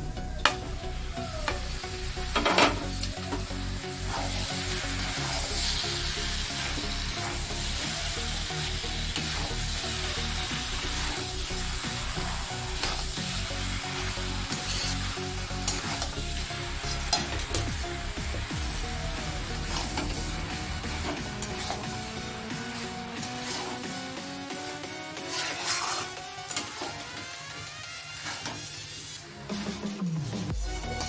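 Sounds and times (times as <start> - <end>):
meat sizzling in hot oil: 0.3 - 31.0
metal spatula scraping: 2.2 - 18.1, 18.8 - 30.0.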